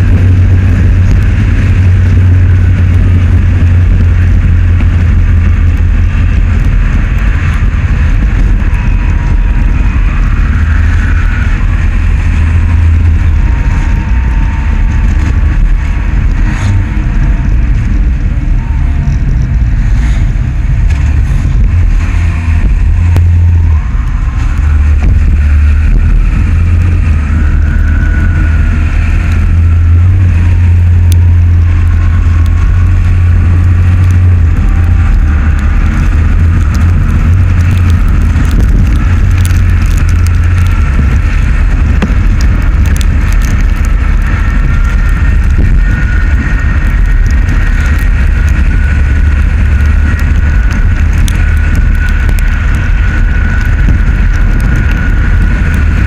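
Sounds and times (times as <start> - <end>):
engine or tyre whine: 0.0 - 56.0
wind and road rumble: 0.0 - 56.0.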